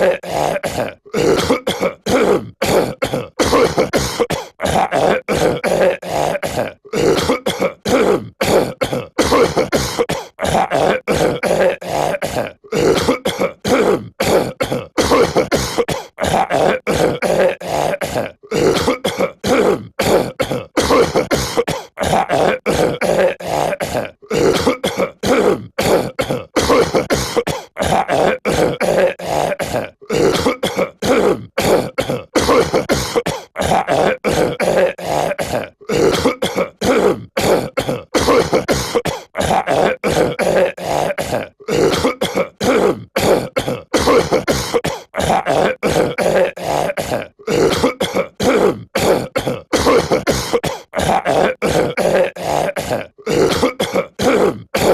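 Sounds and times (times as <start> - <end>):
cartoon voice clearing throat: 0.0 - 54.9.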